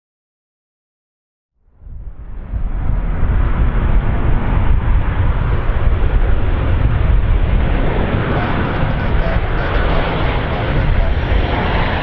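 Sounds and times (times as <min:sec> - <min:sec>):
jet engines low rumble: 0:01.6 - 0:12.0.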